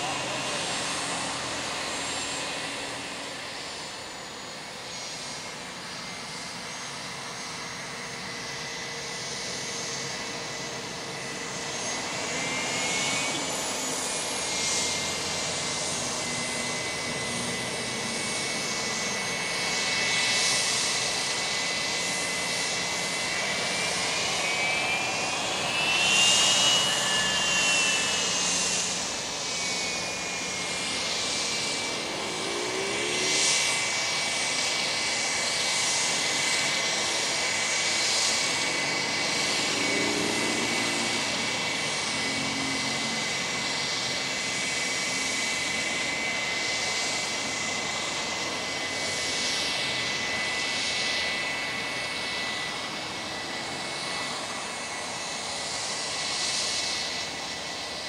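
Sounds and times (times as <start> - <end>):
jet engines whining and roaring: 0.0 - 58.0.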